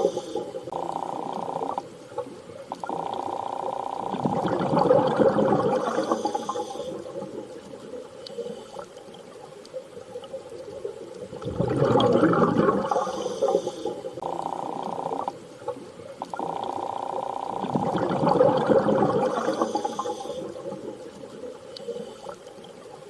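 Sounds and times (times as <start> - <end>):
underwater rushing bubbling water: 0.0 - 23.0.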